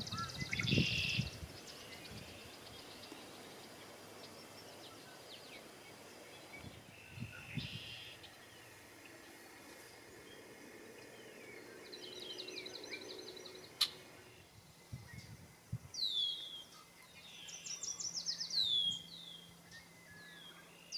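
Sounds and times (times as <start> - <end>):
blackbirds singing trills: 0.0 - 20.9.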